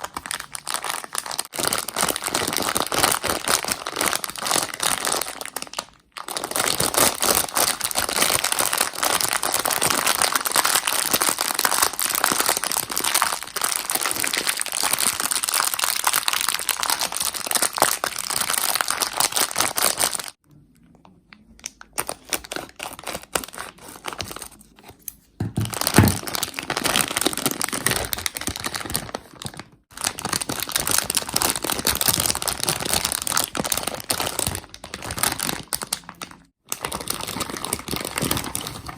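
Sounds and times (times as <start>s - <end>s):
plastic bags crinkling: 0.0s - 20.4s, 21.8s - 38.9s.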